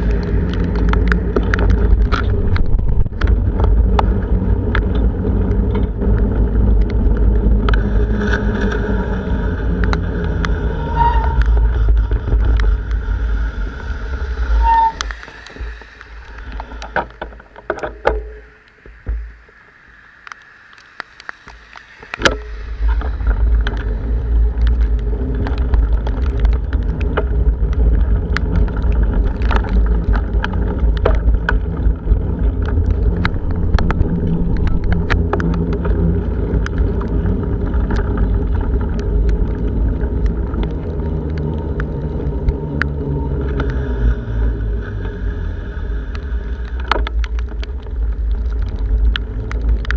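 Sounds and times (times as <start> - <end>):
wind buffeting microphone: 0.0 - 17.8, 22.2 - 49.9
rain and hail ticking on camera: 0.0 - 19.6, 20.2 - 49.9.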